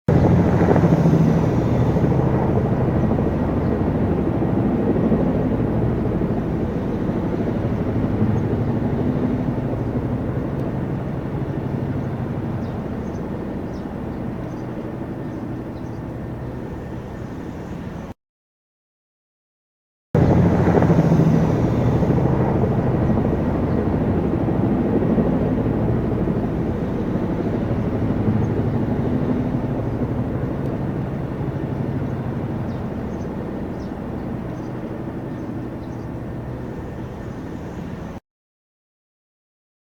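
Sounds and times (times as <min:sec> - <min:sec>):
helicopter engine and rotor: 0:00.1 - 0:18.2, 0:20.2 - 0:38.2.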